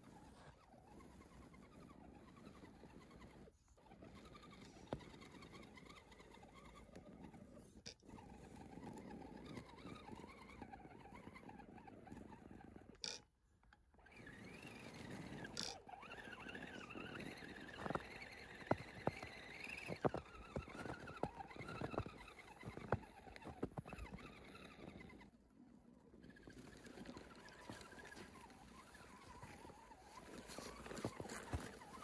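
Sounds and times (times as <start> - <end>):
tyres churning through snow: 0.0 - 13.0, 14.0 - 32.0
rc car electric motor whining: 0.1 - 13.2, 13.9 - 25.4, 26.2 - 32.0.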